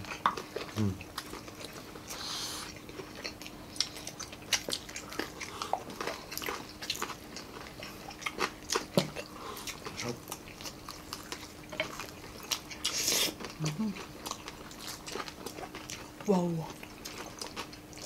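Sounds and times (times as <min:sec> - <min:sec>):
people chewing and crunching: 0:00.0 - 0:18.0.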